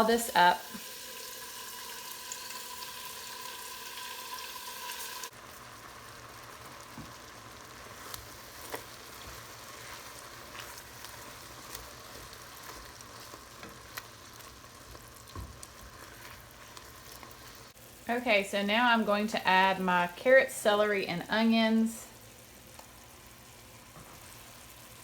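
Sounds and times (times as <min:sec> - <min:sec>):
chicken sizzling in oil: 0:00.0 - 0:18.1, 0:21.8 - 0:25.0.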